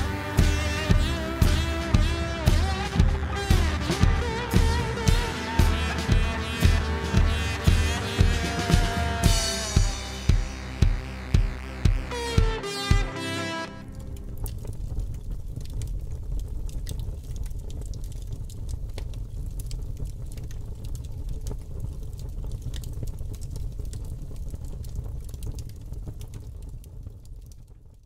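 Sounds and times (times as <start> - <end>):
fire crackling and popping: 0.0 - 28.0
low fire rumble: 0.0 - 28.0.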